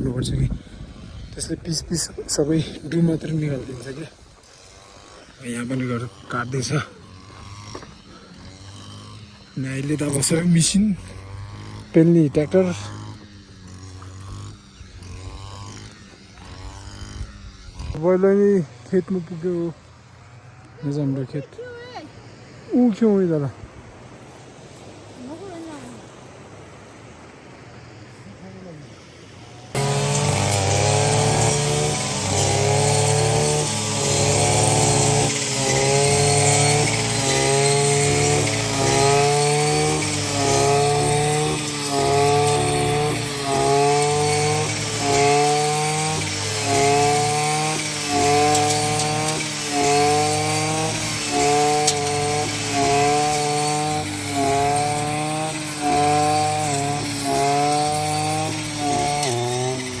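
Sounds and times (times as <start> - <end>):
small engine running with rising pitch: 0.0 - 60.0.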